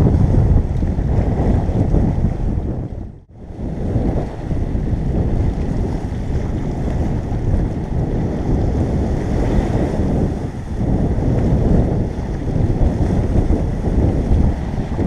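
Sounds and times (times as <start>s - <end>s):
sea surf: 0.0s - 15.0s
wind buffeting microphone: 0.0s - 15.0s.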